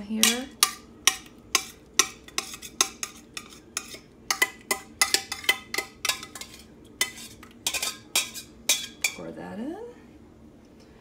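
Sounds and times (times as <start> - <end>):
utensil scraping metal pot: 0.2 - 9.3.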